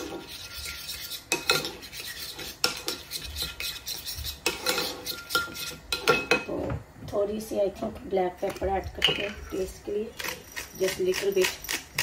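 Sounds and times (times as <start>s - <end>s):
spoon scraping a bowl: 0.0s - 6.4s, 8.5s - 12.0s.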